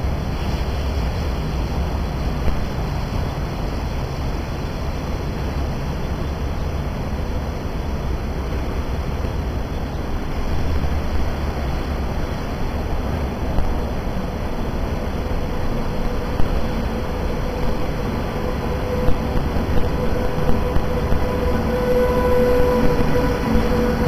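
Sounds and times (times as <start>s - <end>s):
low rumbling background noise: 0.0s - 24.0s.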